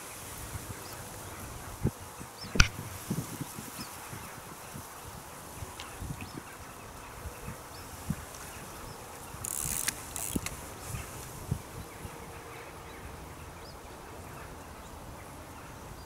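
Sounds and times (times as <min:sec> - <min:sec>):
low outdoor hiss: 0:00.0 - 0:16.0.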